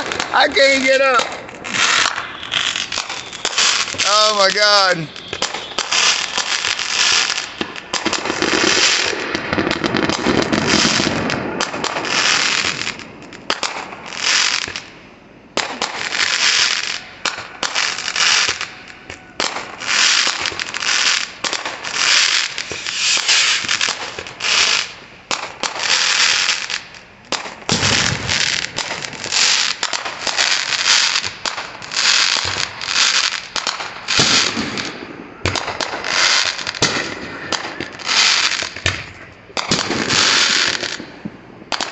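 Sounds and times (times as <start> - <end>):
deep fireworks booms: 0.0 - 41.9
fireworks bursts: 0.0 - 41.9.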